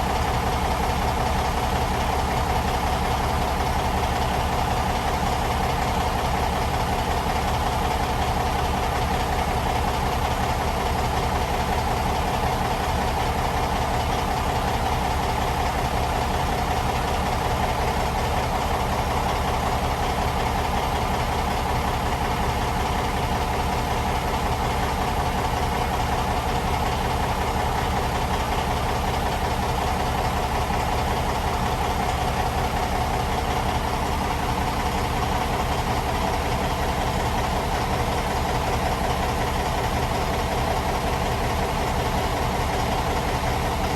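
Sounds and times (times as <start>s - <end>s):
large diesel engine drone: 0.0s - 43.9s.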